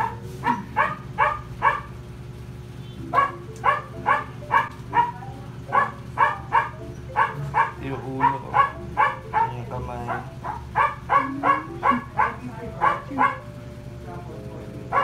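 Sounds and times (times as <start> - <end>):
dog barking: 0.0 - 2.0, 3.1 - 13.5
steady low hum: 0.0 - 15.0.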